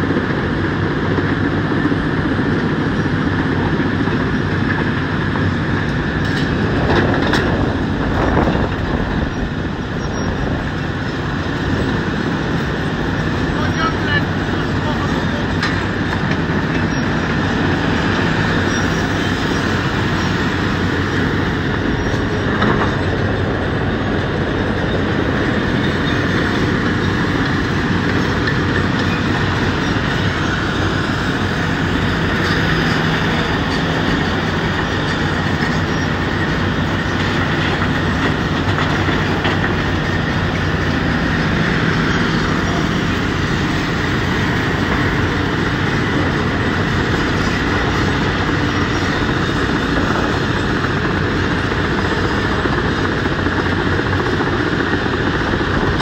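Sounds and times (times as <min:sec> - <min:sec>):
diesel engine droning: 0:00.0 - 0:56.0
excavator working: 0:00.0 - 0:56.0.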